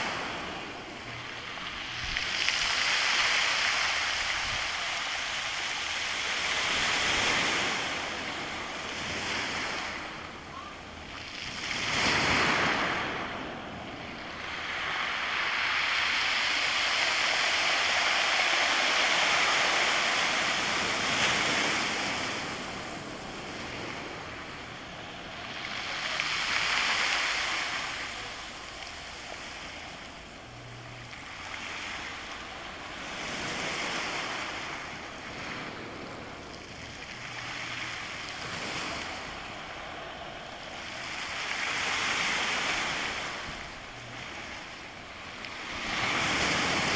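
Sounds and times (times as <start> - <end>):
waves washing over beach stones: 0.0 - 46.9.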